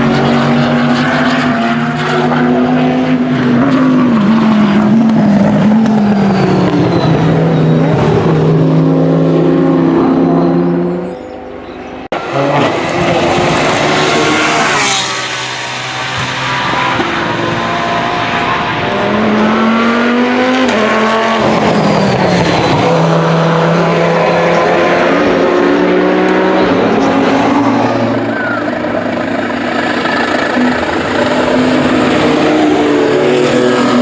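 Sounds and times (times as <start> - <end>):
race car engines passing: 0.0 - 34.0.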